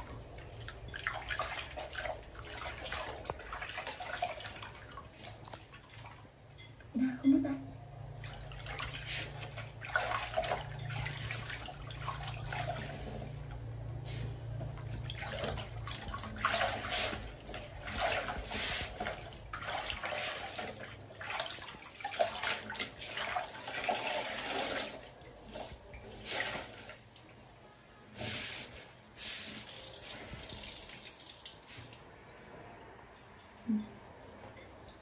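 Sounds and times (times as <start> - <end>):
water pouring into basin: 0.0 - 6.3, 8.1 - 27.2, 29.2 - 32.2
water sloshing and splashing: 0.0 - 6.8, 8.1 - 35.0.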